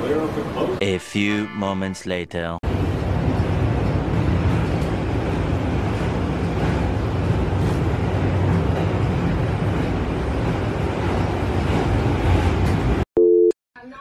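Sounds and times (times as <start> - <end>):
subway train rumble: 0.0 - 0.9, 2.6 - 13.0.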